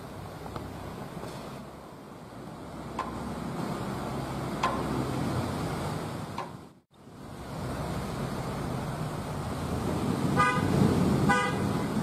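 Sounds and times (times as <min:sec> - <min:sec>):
sea surf on the shore: 0:00.0 - 0:12.0
wind: 0:00.0 - 0:12.0.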